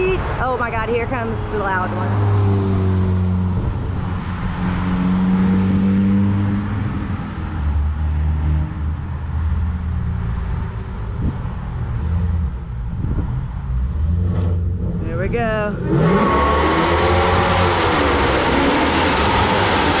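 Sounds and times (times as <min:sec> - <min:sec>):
car engine rumbling passing by: 0:00.0 - 0:20.0.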